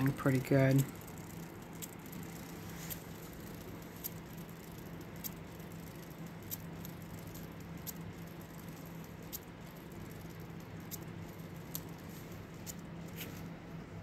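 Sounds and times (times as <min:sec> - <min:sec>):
bicycle wheel spinning: 0:00.0 - 0:14.0.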